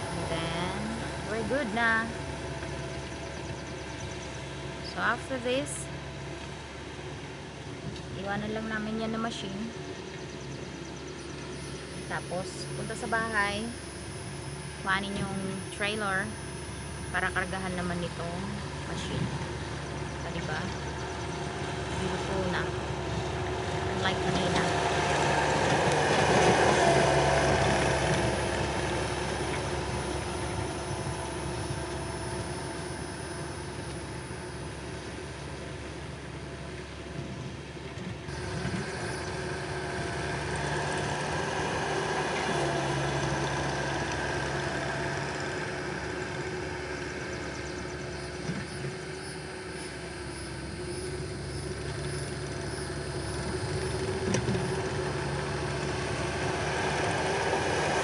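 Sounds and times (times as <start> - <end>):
skid steer engine under load: 0.0 - 58.0.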